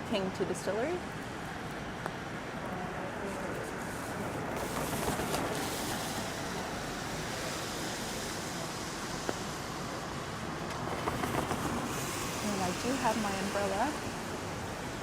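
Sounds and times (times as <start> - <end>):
tyres swishing on wet road: 0.0 - 15.0.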